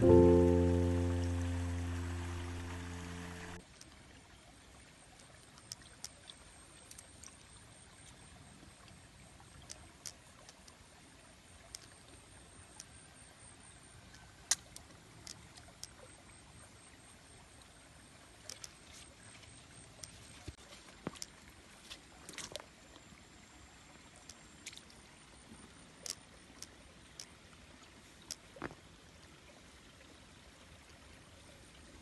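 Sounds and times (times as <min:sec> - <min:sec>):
stream trickling over rocks: 0:00.0 - 0:32.0.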